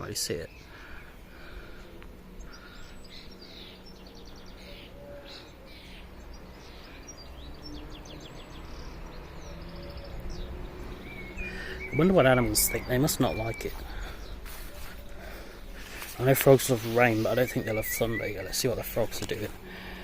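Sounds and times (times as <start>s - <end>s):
low background noise: 0.0s - 20.0s
small birds chirping: 0.0s - 20.0s.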